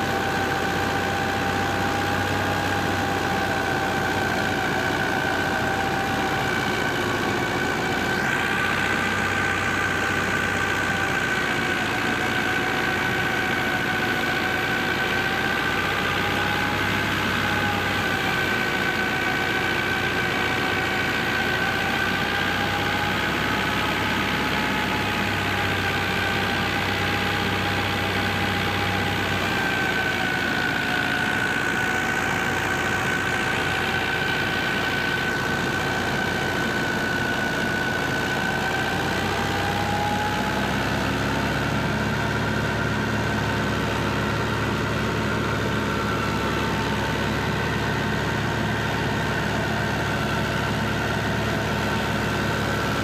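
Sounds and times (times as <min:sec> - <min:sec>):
high wavering whine: 0:00.0 - 0:53.0
tractor and thresher hum: 0:00.0 - 0:53.0.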